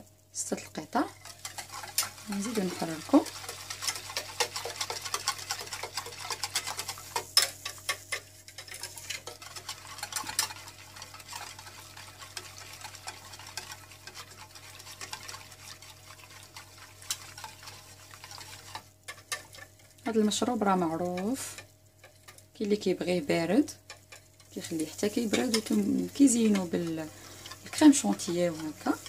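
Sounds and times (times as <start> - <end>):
faint steady hum: 0.0 - 29.0
utensil scraping saucepan: 1.0 - 29.0.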